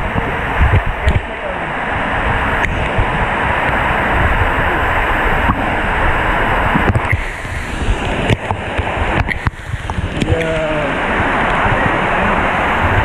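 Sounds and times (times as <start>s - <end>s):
rush of falling water: 0.0s - 13.0s.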